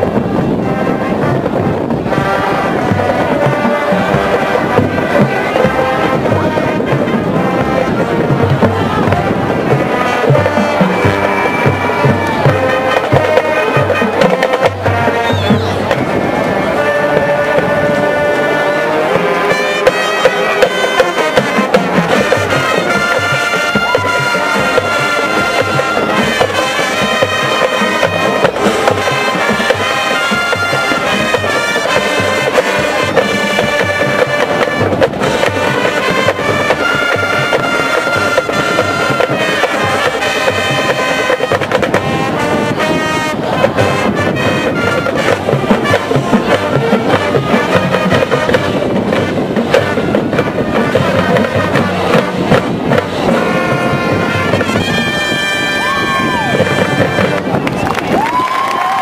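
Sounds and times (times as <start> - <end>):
snare and bass drums: 0.0 - 16.2, 19.1 - 59.0
brass section playing chords: 0.0 - 57.8.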